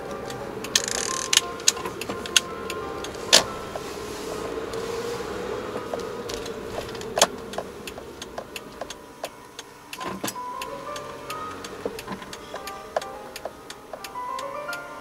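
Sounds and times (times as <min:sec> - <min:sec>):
car engine and road hum: 0:00.0 - 0:15.0
clicks and taps in car cabin: 0:00.1 - 0:03.9, 0:05.7 - 0:14.5.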